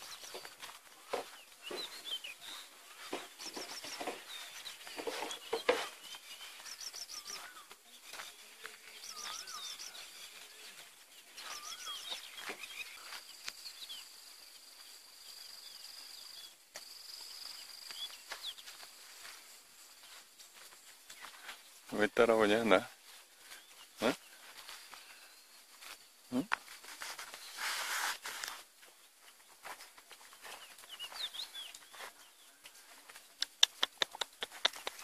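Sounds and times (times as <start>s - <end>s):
wild birds singing: 0.0s - 35.0s.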